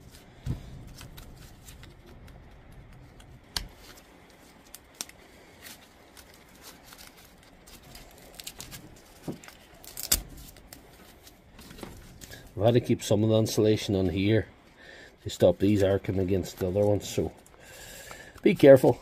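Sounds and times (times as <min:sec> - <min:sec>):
insulation rustling: 0:00.0 - 0:19.0.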